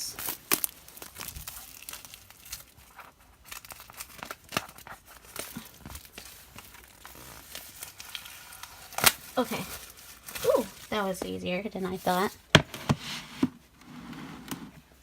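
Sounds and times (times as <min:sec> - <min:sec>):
plastic wrapping tearing and crinkling: 0:00.0 - 0:12.5.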